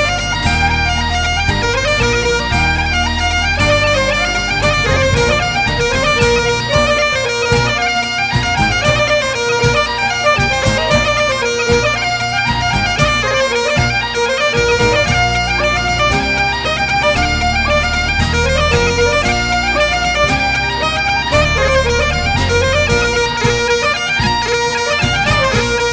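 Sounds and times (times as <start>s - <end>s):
bagpipe tune over drone: 0.0s - 25.9s.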